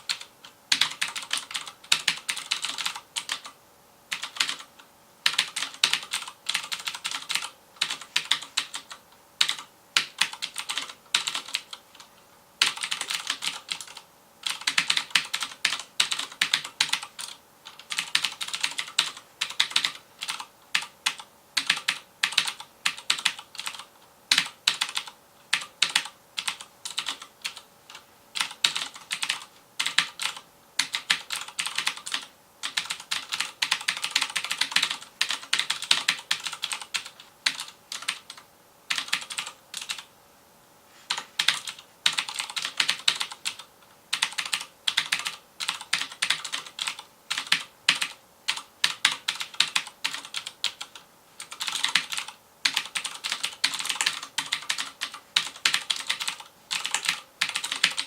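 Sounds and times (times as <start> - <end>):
clicky mechanical keyboard typing: 0.0 - 40.1, 41.1 - 58.0.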